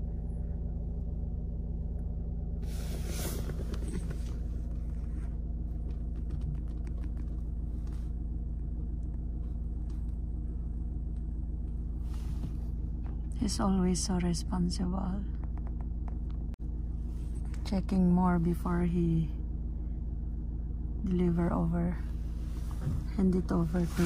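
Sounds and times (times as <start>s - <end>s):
engine idling with low rumble: 0.0s - 24.0s.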